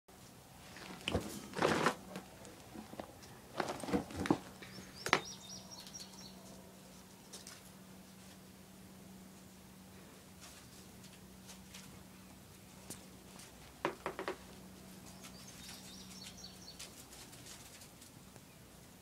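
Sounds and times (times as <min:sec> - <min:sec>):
low steady hum: 0:00.1 - 0:19.0.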